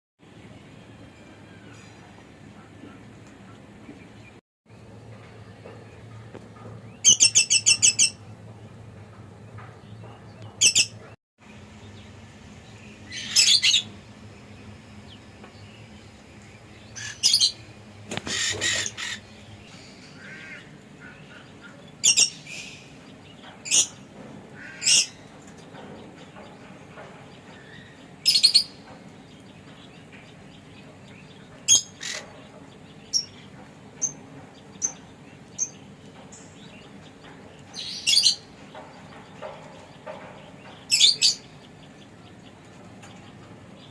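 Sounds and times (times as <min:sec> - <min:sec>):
lovebirds chirping and squawking: 0:05.6 - 0:08.7, 0:09.5 - 0:43.9.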